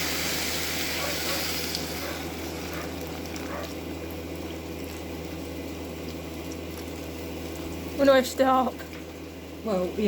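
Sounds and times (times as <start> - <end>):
sizzling and bubbling: 0.0 - 10.0.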